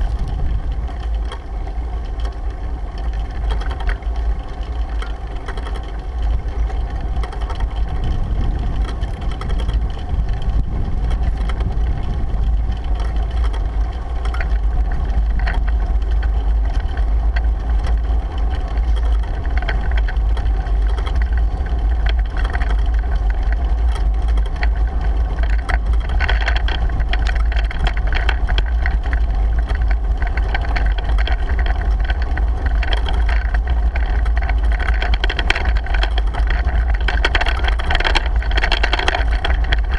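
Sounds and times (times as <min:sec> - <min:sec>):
bicycle ticks and rattles: 0:00.0 - 0:39.9
tyres rolling on road: 0:00.0 - 0:39.9
wind buffeting microphone: 0:00.0 - 0:39.9.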